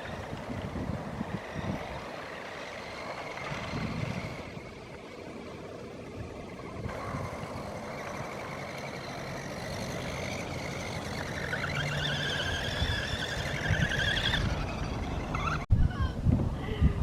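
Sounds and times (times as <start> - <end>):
toy truck motor whining: 0.0 - 15.7.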